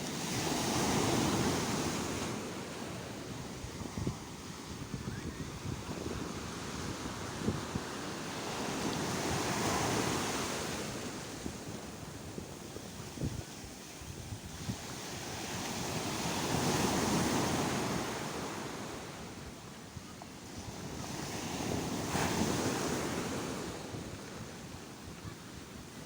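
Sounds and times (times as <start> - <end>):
wind rumble on microphone: 0.4 - 26.0.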